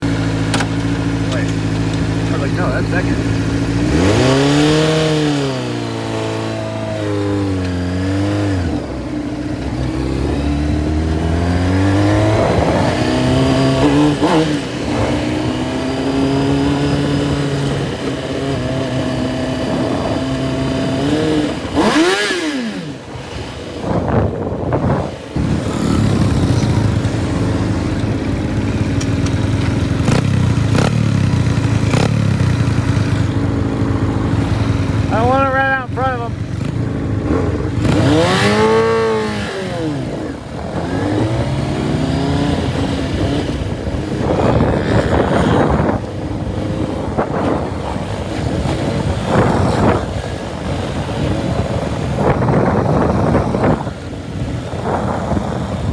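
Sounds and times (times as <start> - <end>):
minibike engine running: 0.0 - 55.9.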